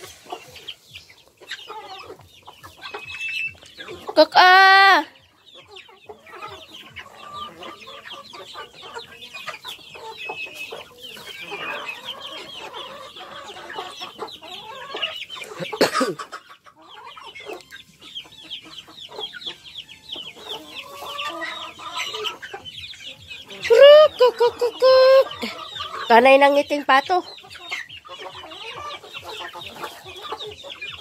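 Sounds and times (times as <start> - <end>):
chickens clucking: 0.0 - 31.0
high peeping calls: 0.0 - 31.0.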